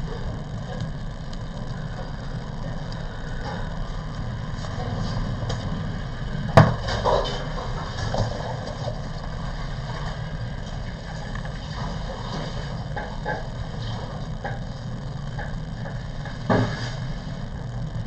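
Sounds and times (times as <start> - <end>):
low rumble of room noise: 0.0 - 18.0.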